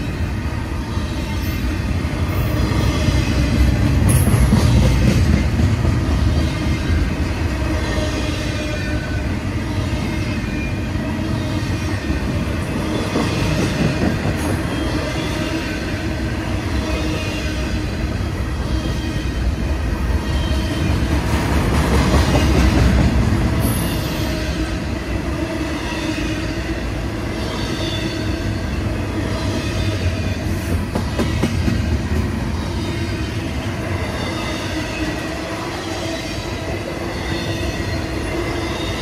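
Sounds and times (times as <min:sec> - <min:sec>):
freight train wheels rumbling: 0:00.0 - 0:39.0.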